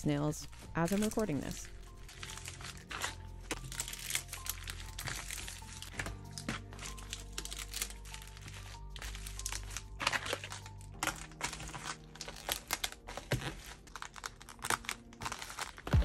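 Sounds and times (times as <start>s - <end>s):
background music: 0.0s - 16.0s
bubble mailers crinkling: 0.0s - 16.0s.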